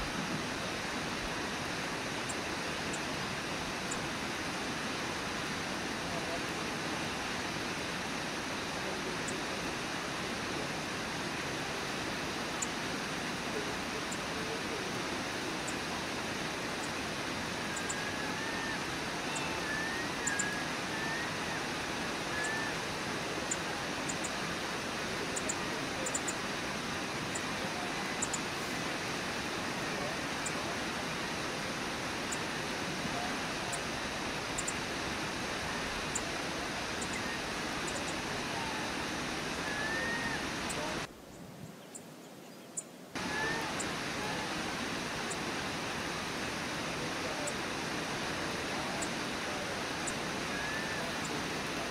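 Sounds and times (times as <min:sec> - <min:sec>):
waterfall roar: 0:00.0 - 0:41.1, 0:43.2 - 0:51.9.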